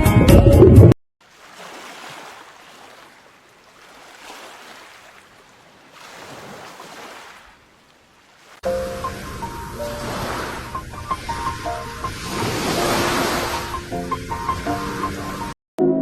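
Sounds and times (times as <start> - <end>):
sea waves washing on beach: 1.2 - 15.5.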